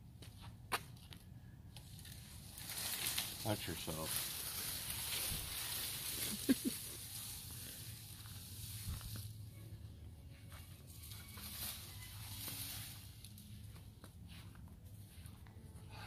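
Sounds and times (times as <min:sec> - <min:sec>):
leafy branches rustling: 0:01.8 - 0:15.4.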